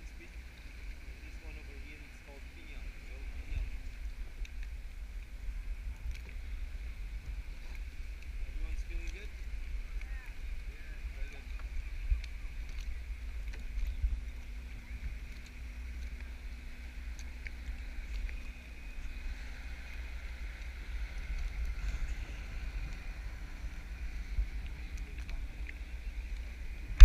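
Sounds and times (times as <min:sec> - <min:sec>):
kayak paddling in water: 0:00.0 - 0:27.0
wind rumbling on microphone: 0:00.0 - 0:27.0.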